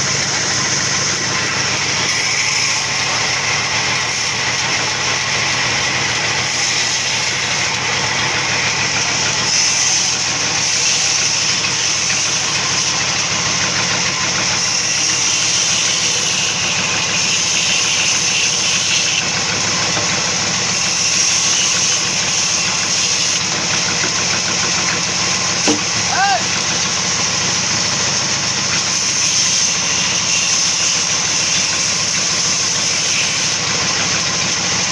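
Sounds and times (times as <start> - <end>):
sawmill machinery drone: 0.0 - 34.9.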